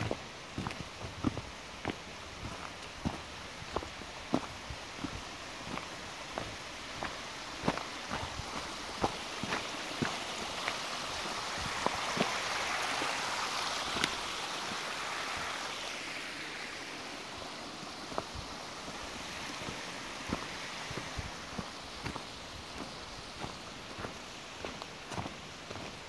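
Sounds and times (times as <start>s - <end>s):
footsteps crunching on dirt trail: 0.0s - 15.7s, 17.9s - 26.0s
creek water rushing: 0.0s - 26.0s.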